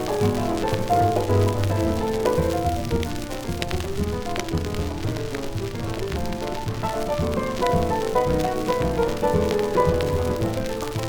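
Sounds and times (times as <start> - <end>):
piano melody: 0.0 - 11.0
record surface hiss: 0.0 - 11.0.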